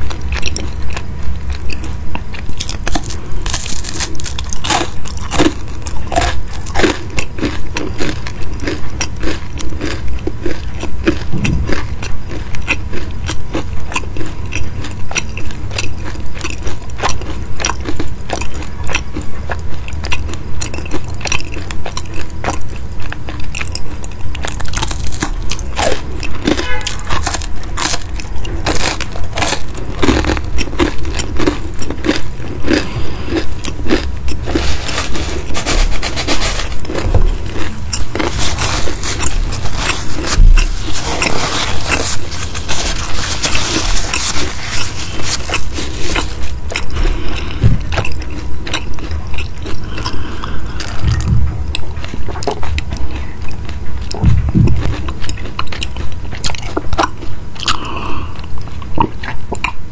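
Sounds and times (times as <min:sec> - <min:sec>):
crisp crackly bites: 0:00.0 - 0:59.8
open-mouthed chewing: 0:00.0 - 0:59.9.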